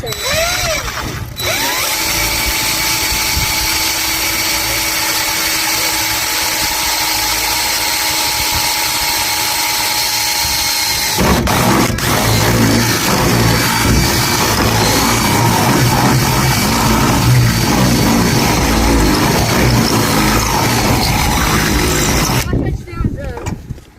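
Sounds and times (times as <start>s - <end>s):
electric drill running: 0.0s - 22.5s.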